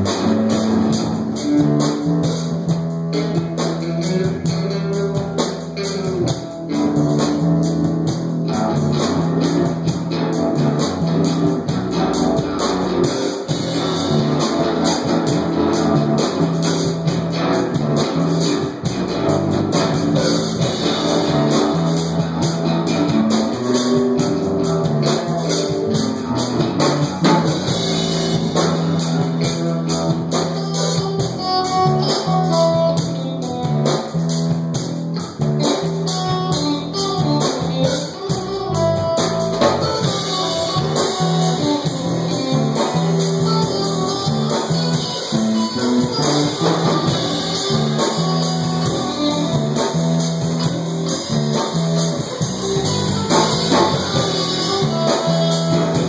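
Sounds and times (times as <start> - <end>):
drum kit: 0.0 - 56.0
guitar-led song: 0.0 - 56.0.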